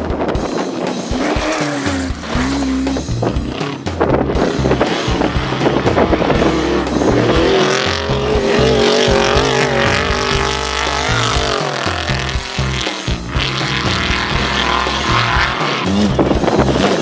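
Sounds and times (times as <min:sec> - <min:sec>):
engine revving hard: 0:00.7 - 0:17.0.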